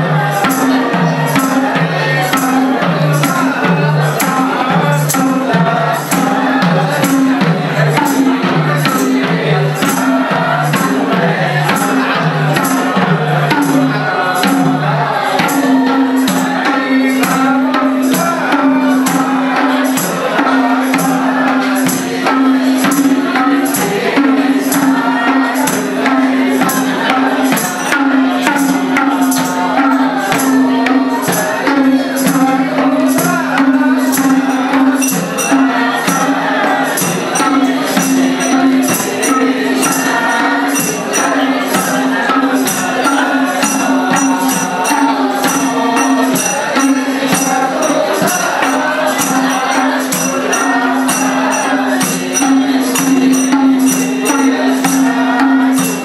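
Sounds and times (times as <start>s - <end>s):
hand drum beat: 0.0s - 56.0s
jingling metal percussion: 0.0s - 56.0s
men singing: 0.0s - 56.0s.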